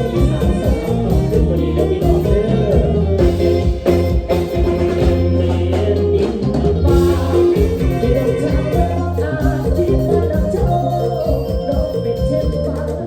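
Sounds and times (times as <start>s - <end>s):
band playing lively song: 0.0s - 13.0s
person singing: 0.0s - 13.0s
strong bass line: 0.0s - 13.0s.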